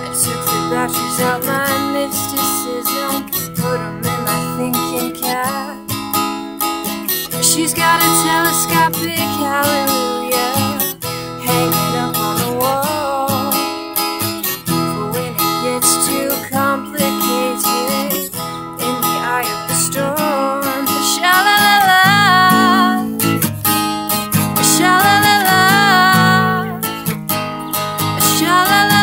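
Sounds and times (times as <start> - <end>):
woman singing: 0.0 - 6.0, 7.1 - 23.4, 24.4 - 27.0, 27.7 - 29.0
acoustic guitar strumming: 0.0 - 29.0.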